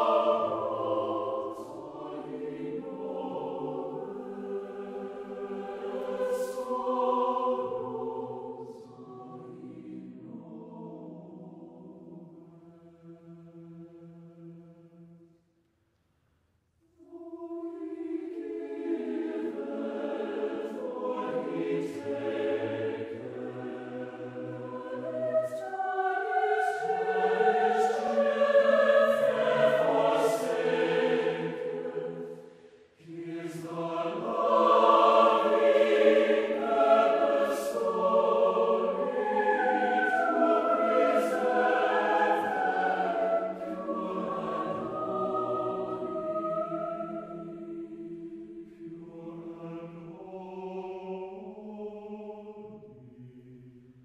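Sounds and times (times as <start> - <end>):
choir singing long notes: 0.0 - 15.5, 16.9 - 54.0.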